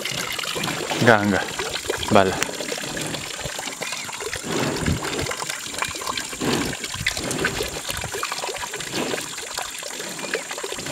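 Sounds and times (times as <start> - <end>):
cows slurping liquid: 0.0 - 10.9.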